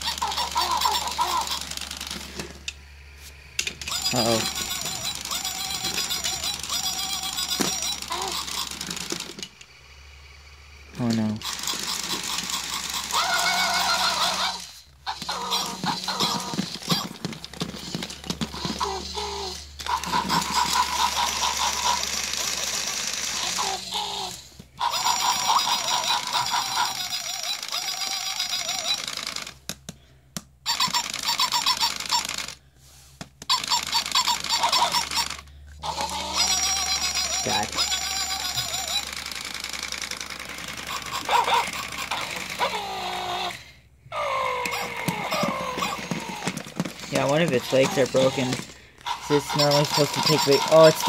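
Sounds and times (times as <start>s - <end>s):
electronic yelping from toy robot: 0.0s - 29.5s, 30.6s - 32.6s, 33.5s - 51.0s
gear motors clicking and whirring: 0.0s - 30.0s, 30.6s - 32.6s, 33.4s - 51.0s.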